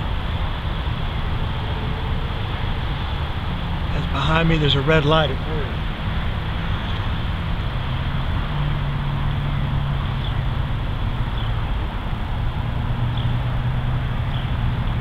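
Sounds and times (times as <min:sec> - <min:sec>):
constant rushing noise: 0:00.0 - 0:15.0
locomotive engine drone: 0:00.0 - 0:15.0.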